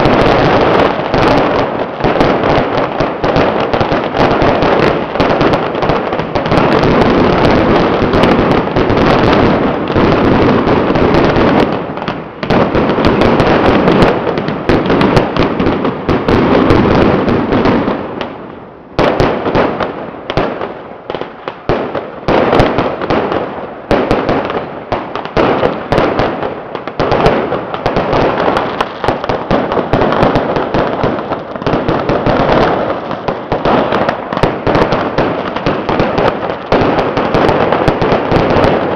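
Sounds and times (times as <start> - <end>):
firecrackers rattling: 0.0 - 18.2, 19.0 - 38.9.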